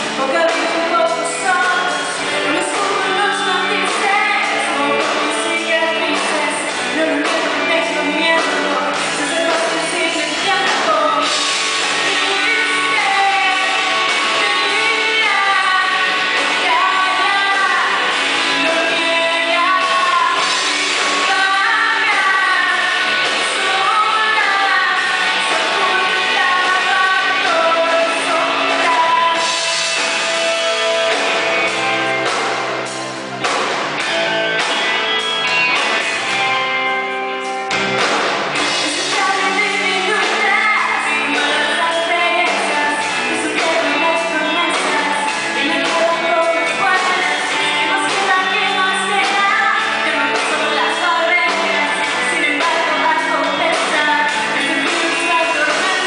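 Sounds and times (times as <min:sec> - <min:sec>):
woman singing: 0:00.0 - 0:30.0, 0:38.7 - 0:56.0
rock band playing live: 0:00.0 - 0:56.0.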